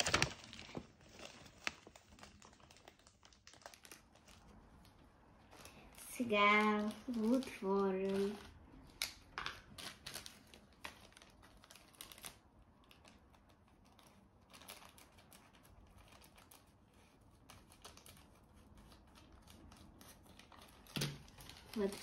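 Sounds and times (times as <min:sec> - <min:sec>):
packet crinkling and clicking: 0:00.0 - 0:16.7, 0:17.5 - 0:22.0.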